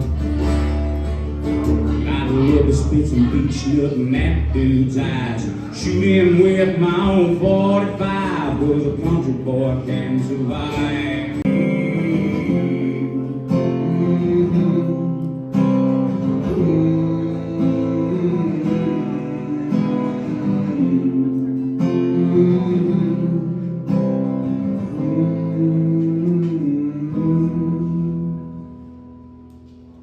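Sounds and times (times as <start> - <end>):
instrumental country music: 0.0 - 30.0.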